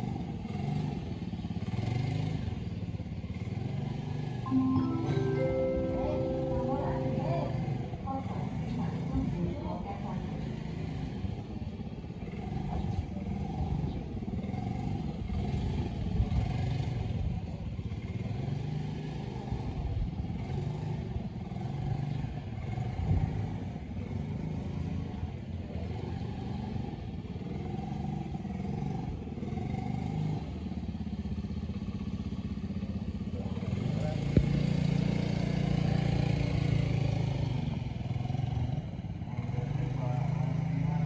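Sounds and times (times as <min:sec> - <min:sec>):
scooter engine running: 0:00.0 - 0:41.0.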